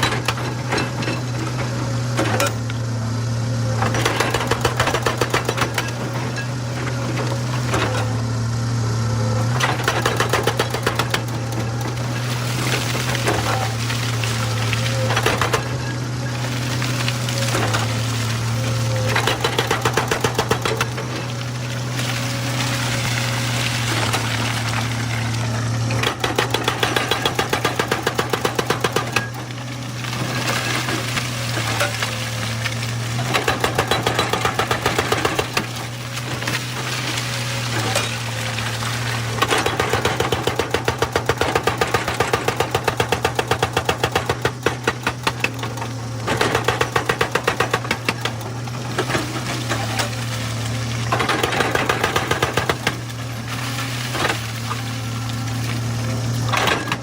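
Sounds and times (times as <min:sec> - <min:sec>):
hydraulic breaker hammering rock: 0:00.0 - 0:02.8, 0:03.7 - 0:08.2, 0:09.4 - 0:25.0, 0:25.7 - 0:57.0
diesel engine running: 0:00.0 - 0:57.0.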